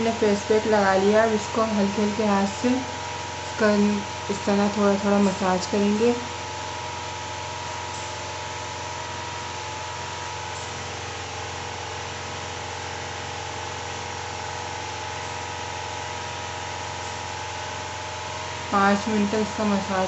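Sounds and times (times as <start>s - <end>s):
electric appliance humming: 0.0s - 20.0s.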